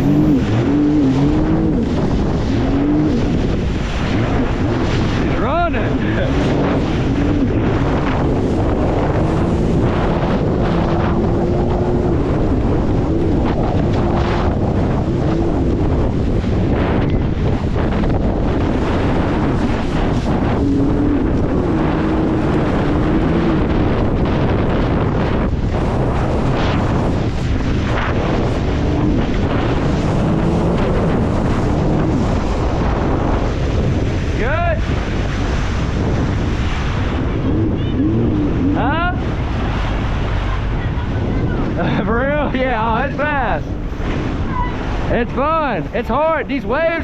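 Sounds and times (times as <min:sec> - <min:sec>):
jet ski engine running: 0:00.0 - 0:47.0
rushing water: 0:00.0 - 0:47.0
wind buffeting microphone: 0:00.0 - 0:47.0.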